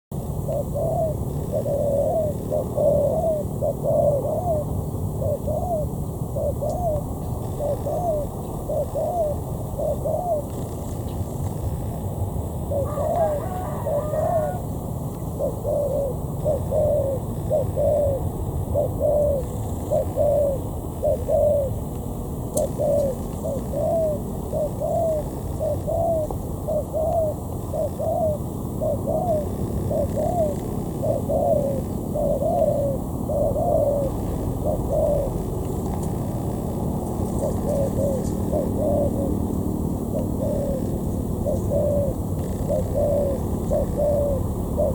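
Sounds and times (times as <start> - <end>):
steady low rumble: 0.1 - 44.9
dove cooing: 0.2 - 44.9.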